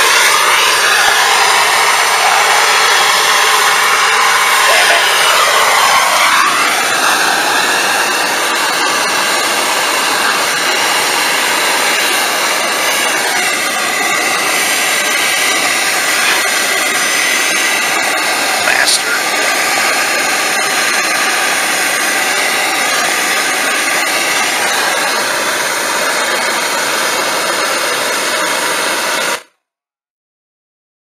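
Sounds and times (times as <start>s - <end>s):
torch flame hissing: 0.0s - 29.4s.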